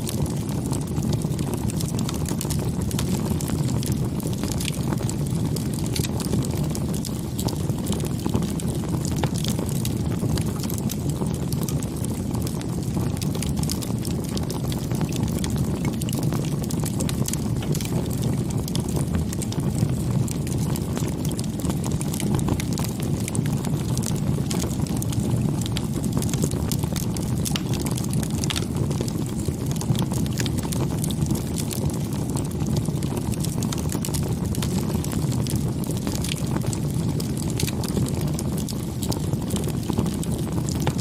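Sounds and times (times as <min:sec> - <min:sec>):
fire crackling and popping: 0:00.0 - 0:41.0
low rumble of flame: 0:00.0 - 0:41.0.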